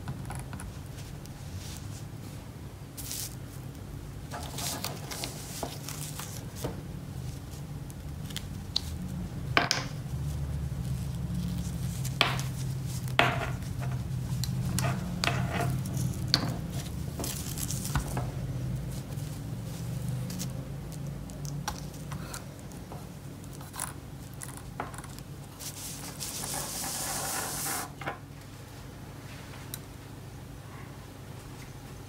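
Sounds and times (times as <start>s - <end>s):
steady low hum: 0.0s - 32.0s
soft rustling of gloved hands: 0.7s - 24.4s, 25.2s - 27.6s.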